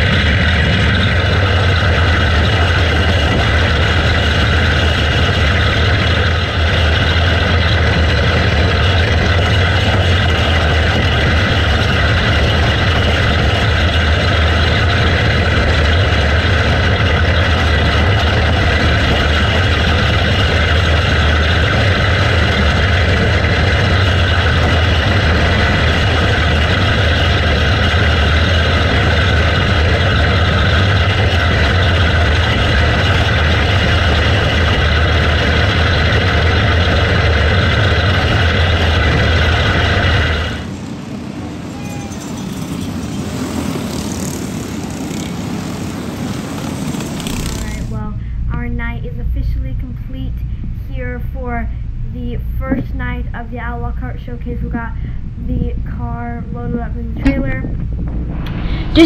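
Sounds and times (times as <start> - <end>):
kart engine running hard: 0.0 - 48.1.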